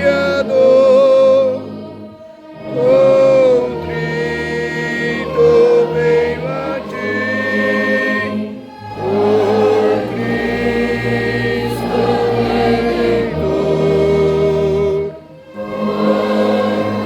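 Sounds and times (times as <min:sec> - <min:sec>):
band of instruments: 0:00.0 - 0:17.0
congregation singing a hymn: 0:00.0 - 0:17.0.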